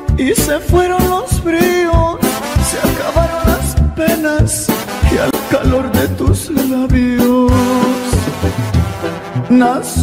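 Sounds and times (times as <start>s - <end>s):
instrumental melody over bass and drums: 0.0s - 10.0s.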